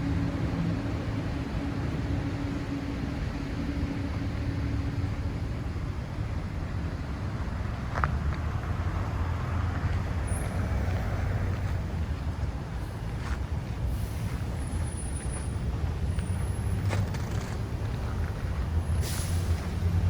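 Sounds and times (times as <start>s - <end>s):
passing cars rumble: 0.0s - 20.0s.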